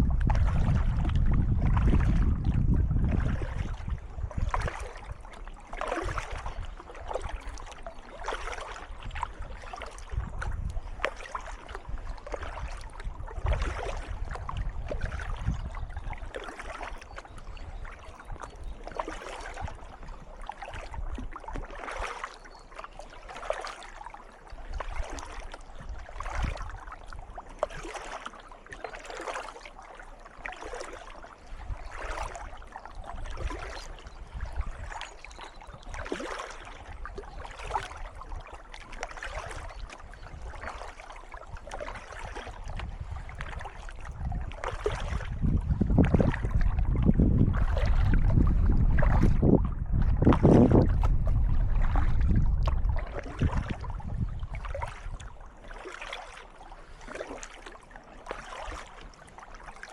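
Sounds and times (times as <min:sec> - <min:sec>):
wind rumble on microphone: 0:00.0 - 0:22.1, 0:24.5 - 0:28.2, 0:31.4 - 0:55.4
water trickling off paddle: 0:00.0 - 0:59.9
paddle strokes splashing: 0:00.1 - 0:59.9.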